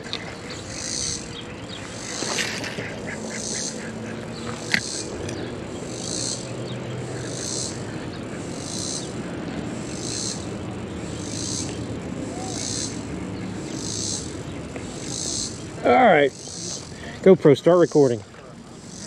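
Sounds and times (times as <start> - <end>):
insect buzzy pulses: 0.0 - 19.0.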